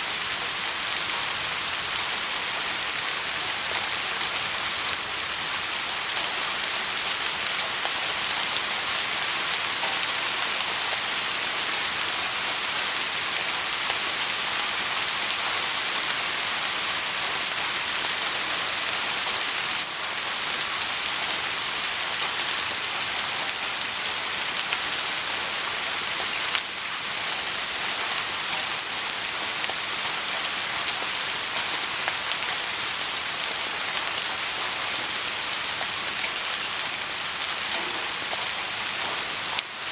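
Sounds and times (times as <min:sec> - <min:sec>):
soft rain patter: 0:00.0 - 0:39.9.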